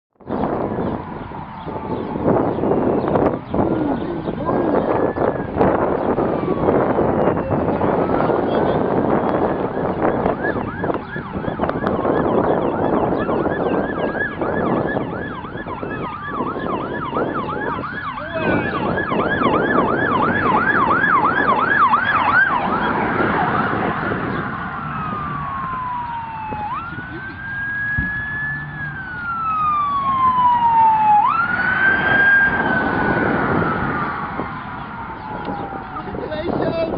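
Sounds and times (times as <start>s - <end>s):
electronic siren: 0.3s - 36.6s.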